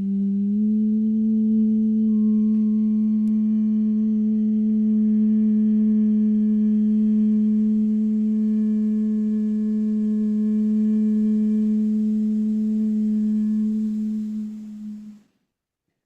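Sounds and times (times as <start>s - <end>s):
long steady held tone: 0.0s - 15.3s.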